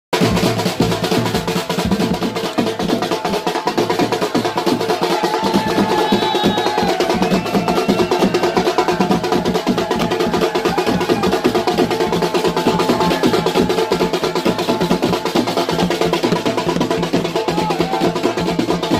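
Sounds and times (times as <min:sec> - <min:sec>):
fast street drumming: 0:00.1 - 0:18.9
people shouting: 0:03.2 - 0:18.9.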